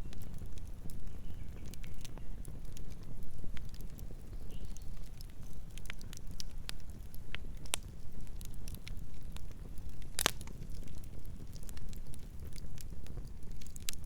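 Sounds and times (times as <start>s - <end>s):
campfire rumbling: 0.0s - 14.0s
fire crackling and popping: 0.0s - 14.0s.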